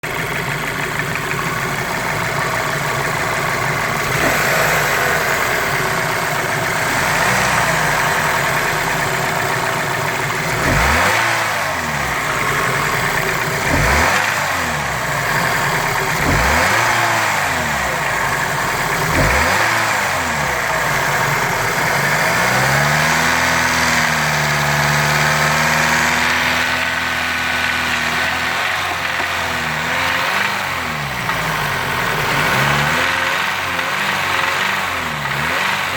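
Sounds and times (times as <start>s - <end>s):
car engine idling and revving: 0.0s - 35.9s
engine knocking: 0.0s - 35.9s.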